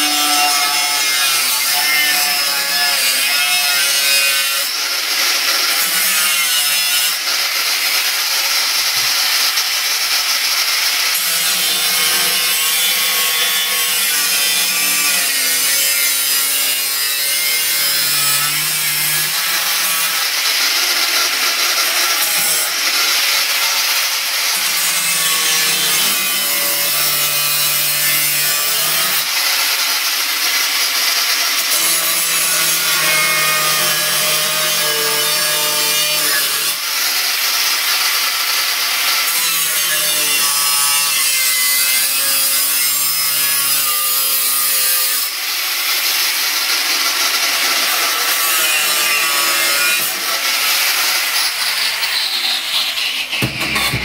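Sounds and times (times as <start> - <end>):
angle grinder cutting metal: 0.0 - 54.0.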